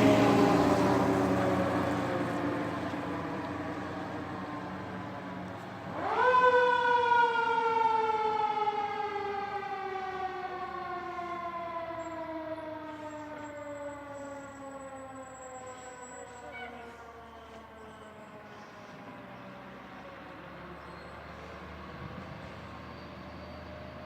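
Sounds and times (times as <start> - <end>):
fire truck siren wailing: 0.0 - 24.0.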